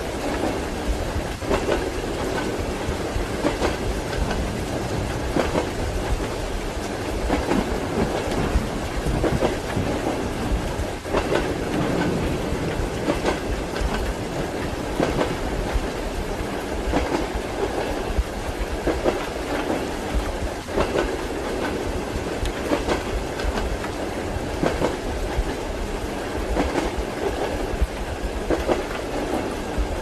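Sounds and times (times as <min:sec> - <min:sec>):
low rumble of train: 0:00.0 - 0:30.0
train wheels clattering over rail joints: 0:00.1 - 0:25.6, 0:26.4 - 0:29.9.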